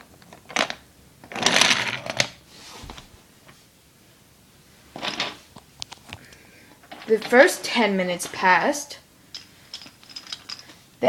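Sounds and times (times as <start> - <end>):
rustling and scraping handling noise: 0.2 - 3.7, 4.9 - 10.9.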